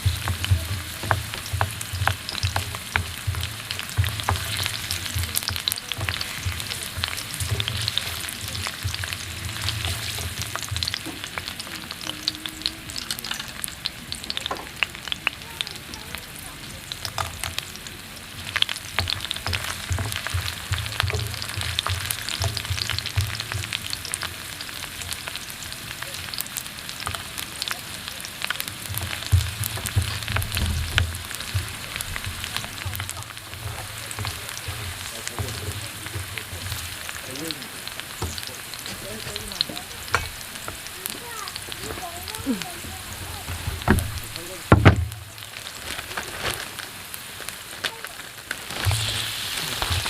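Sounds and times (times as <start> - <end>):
prawns sizzling in oil: 0.0 - 50.0.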